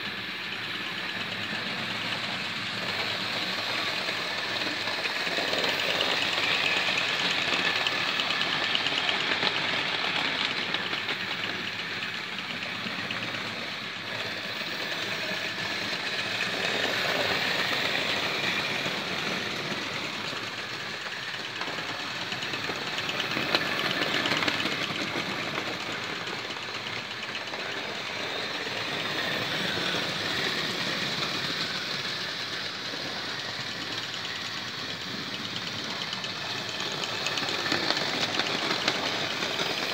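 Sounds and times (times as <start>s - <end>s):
small electric motors whirring: 0.0s - 39.9s
wheels clattering on rail: 0.0s - 39.9s.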